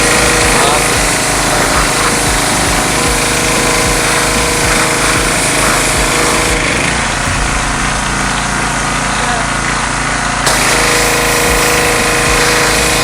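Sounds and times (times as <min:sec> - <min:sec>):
power tool rattling: 0:00.0 - 0:13.0.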